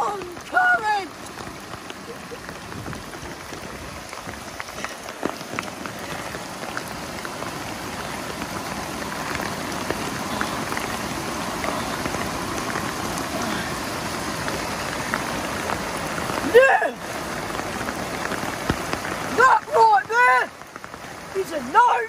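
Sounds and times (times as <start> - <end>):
floodwater rushing: 0.0 - 22.0
heavy rain: 0.0 - 22.0.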